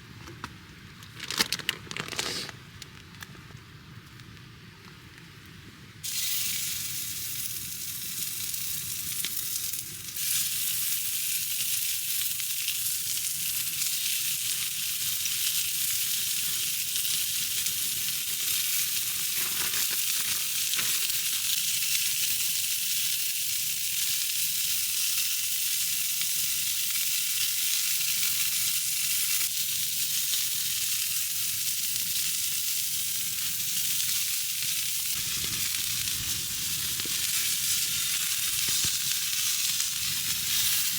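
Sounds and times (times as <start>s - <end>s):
food sizzling in a frying pan: 6.0s - 40.9s.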